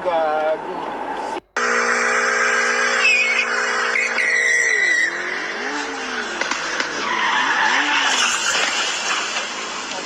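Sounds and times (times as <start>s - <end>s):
car tyres squealing: 1.0s - 10.0s.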